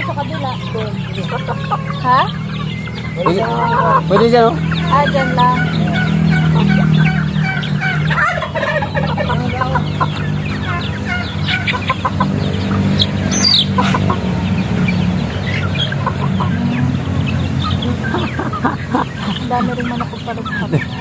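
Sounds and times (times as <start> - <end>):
chicks clucking and chirping: 0.0 - 21.0.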